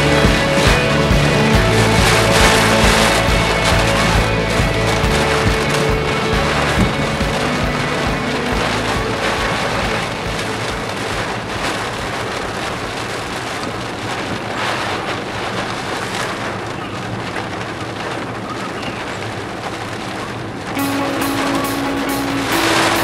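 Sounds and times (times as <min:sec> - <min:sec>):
heavy rain and wind on car: 0:00.0 - 0:23.0.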